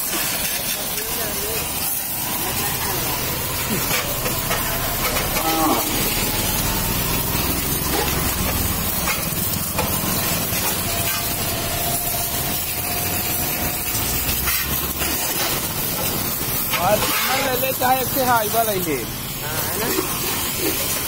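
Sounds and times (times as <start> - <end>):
high-pressure water jet spraying: 0.0 - 21.0
water splattering off metal: 0.0 - 21.0.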